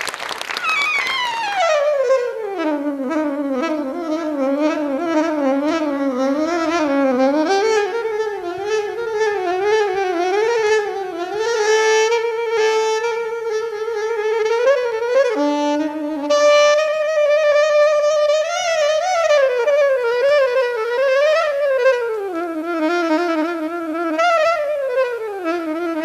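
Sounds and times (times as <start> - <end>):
saxophone melody with vibrato: 0.0 - 26.0.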